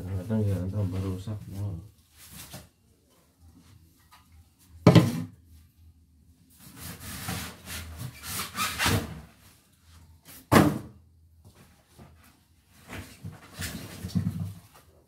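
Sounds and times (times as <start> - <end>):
rustling and handling noise: 0.0 - 10.5, 11.3 - 15.0.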